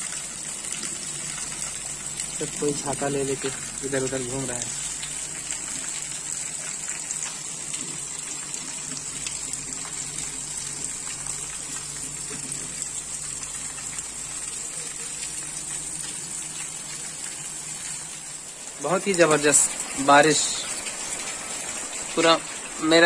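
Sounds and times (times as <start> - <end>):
heavy rain pouring: 0.0 - 23.0
rain drops ticking: 0.0 - 23.0.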